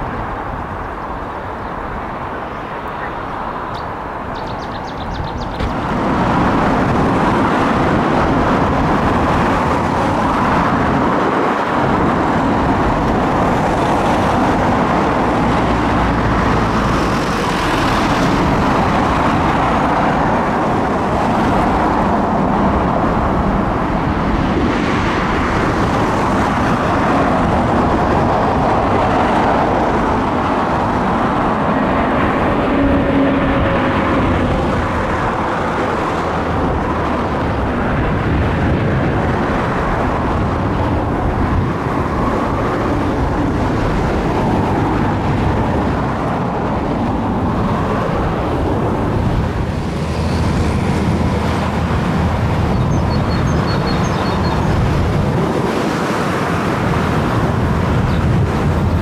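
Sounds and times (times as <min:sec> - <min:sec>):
jet engine rush: 0:00.0 - 0:59.0.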